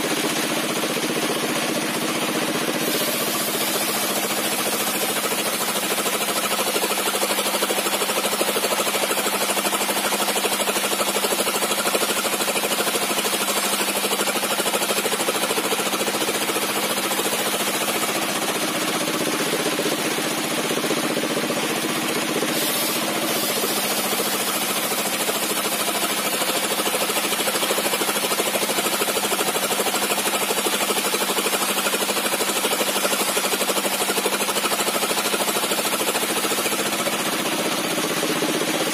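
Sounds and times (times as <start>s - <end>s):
sawmill blade ripping log: 1.9s - 38.9s.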